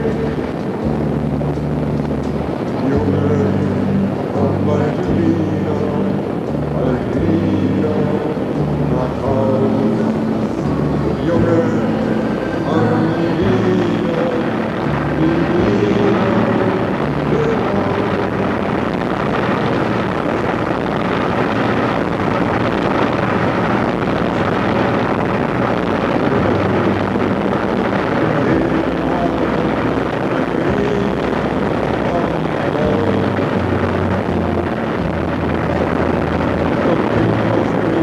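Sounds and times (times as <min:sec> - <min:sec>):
ship engine drone: 0:00.0 - 0:38.0
wind on microphone: 0:00.0 - 0:38.0.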